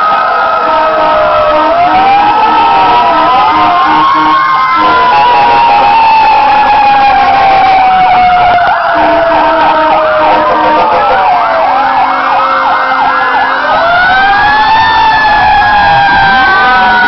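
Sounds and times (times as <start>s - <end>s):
fast siren yelp: 0.0s - 17.0s
fire truck siren wail: 0.0s - 17.0s.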